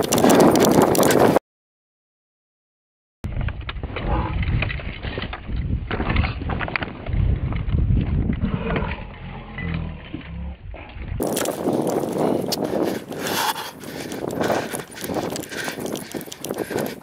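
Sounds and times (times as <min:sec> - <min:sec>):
wind buffeting: 0:00.0 - 0:01.4, 0:03.3 - 0:17.0.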